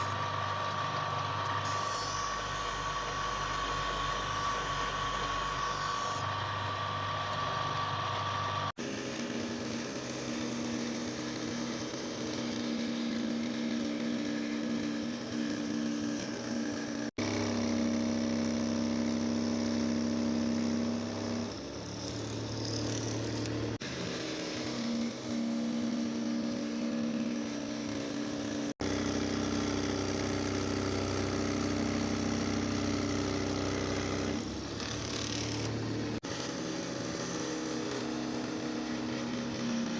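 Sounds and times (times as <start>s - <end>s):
electric motor humming: 0.0s - 39.9s.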